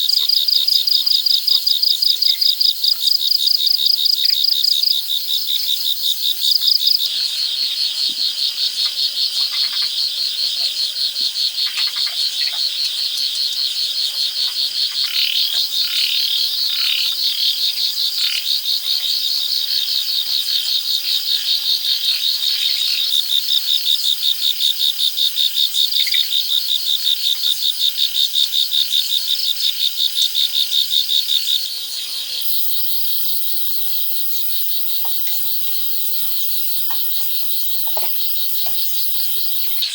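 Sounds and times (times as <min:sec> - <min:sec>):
insect chorus trilling: 0:00.0 - 0:07.1, 0:14.7 - 0:39.9.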